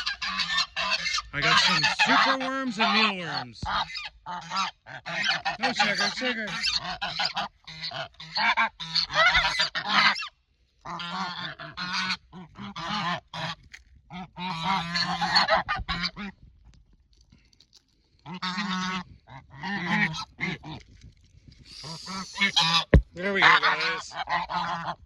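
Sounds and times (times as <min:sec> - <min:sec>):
geese honking: 0:00.0 - 0:10.3, 0:10.9 - 0:16.2, 0:18.3 - 0:20.8, 0:21.7 - 0:25.0.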